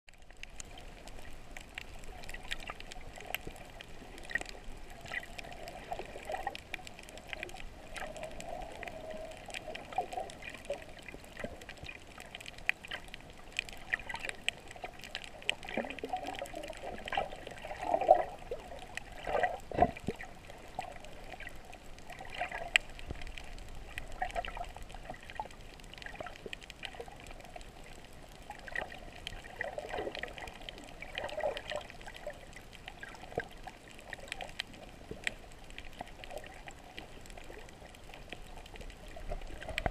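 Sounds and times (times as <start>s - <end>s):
muffled underwater water gurgle: 0.1s - 39.9s
small scattered clicks: 0.1s - 39.9s.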